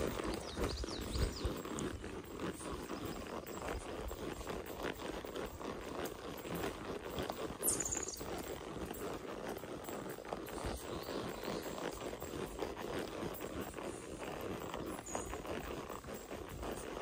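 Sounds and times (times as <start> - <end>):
horse hooves clopping on dirt: 0.0 - 17.0.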